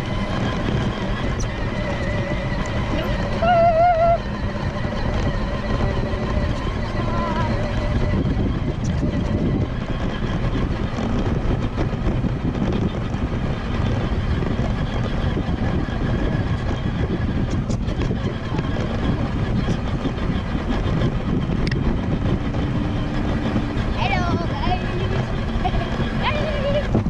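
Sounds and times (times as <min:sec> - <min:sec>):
ride-on vehicle rumbling: 0:00.0 - 0:27.0.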